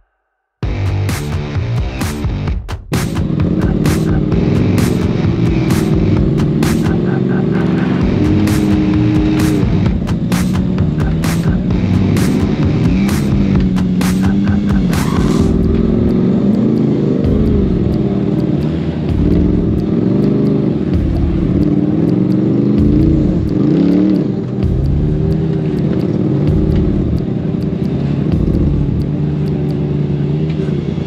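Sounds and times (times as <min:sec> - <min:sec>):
engine revving in short blips: 0:00.7 - 0:31.0.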